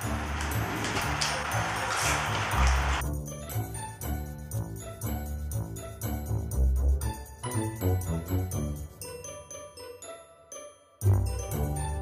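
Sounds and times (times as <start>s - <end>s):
background music light ringing notes: 0.0s - 12.0s.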